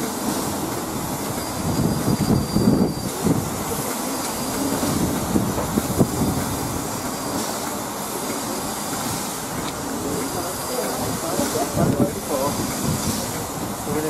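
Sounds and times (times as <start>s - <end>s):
steam locomotive hissing and rumbling: 0.0s - 14.0s.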